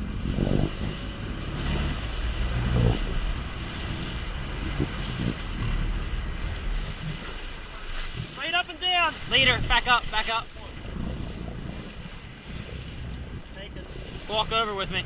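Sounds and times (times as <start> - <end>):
boat engine rumbling: 0.0 - 15.0
wind buffeting microphone: 0.0 - 15.0.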